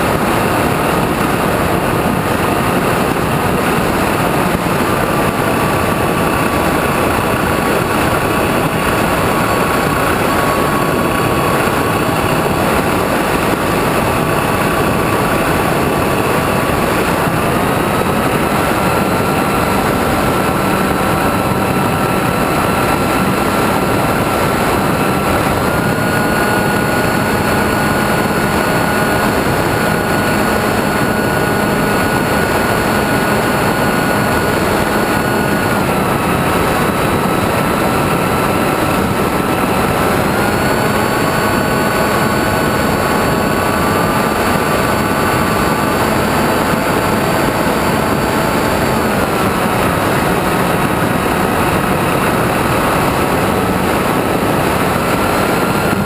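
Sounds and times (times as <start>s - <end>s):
electric motor and propeller whine: 0.0s - 56.0s.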